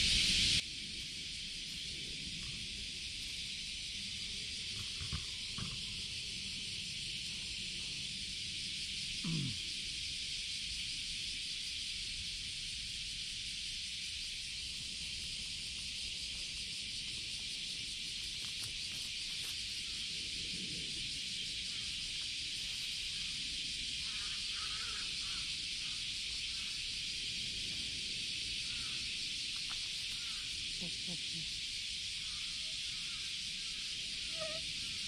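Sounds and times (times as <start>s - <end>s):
high-pitched outdoor background hiss: 0.0s - 35.0s.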